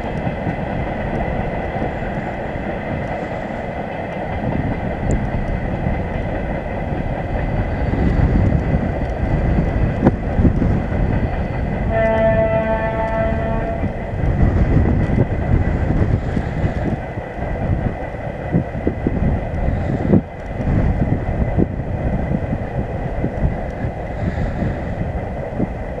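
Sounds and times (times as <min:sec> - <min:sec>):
distant train rumbling: 0:00.0 - 0:26.0
wind buffeting microphone: 0:00.0 - 0:26.0.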